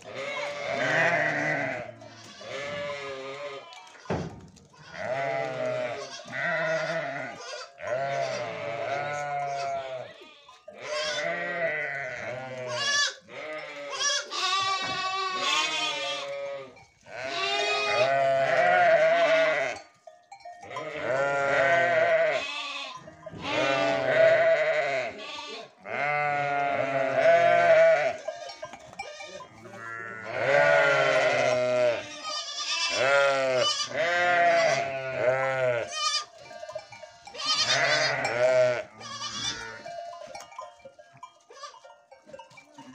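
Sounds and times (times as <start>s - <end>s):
sheep and lambs bleating: 0.0s - 42.9s.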